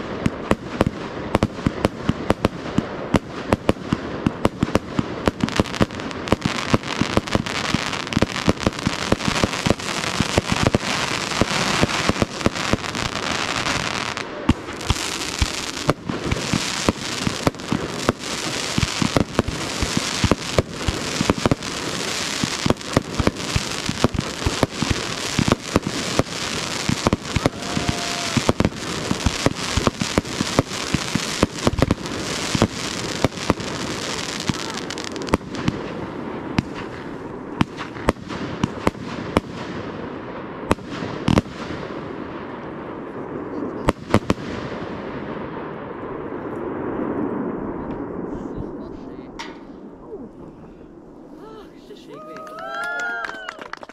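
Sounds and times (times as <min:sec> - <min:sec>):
fireworks bangs: 0:00.0 - 0:50.5
fireworks crackling: 0:00.0 - 0:53.9.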